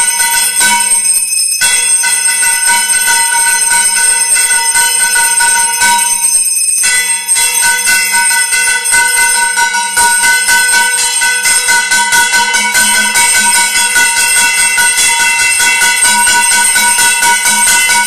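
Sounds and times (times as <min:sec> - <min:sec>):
temple bells ringing rapidly: 0:00.0 - 0:18.0.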